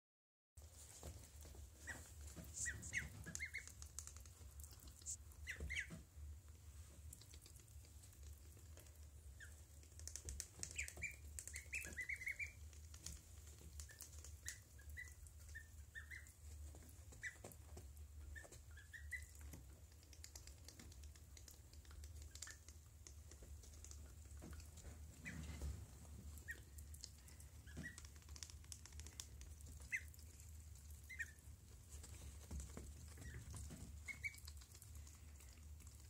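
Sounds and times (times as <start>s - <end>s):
small clicks from birds preening: 0.9s - 6.0s, 6.8s - 15.7s, 16.4s - 36.0s
ducklings peeping: 1.0s - 6.2s, 7.0s - 36.0s.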